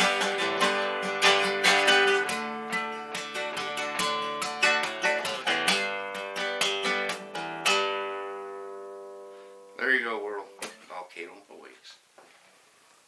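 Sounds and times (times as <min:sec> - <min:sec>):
acoustic guitar strumming: 0:00.0 - 0:11.2.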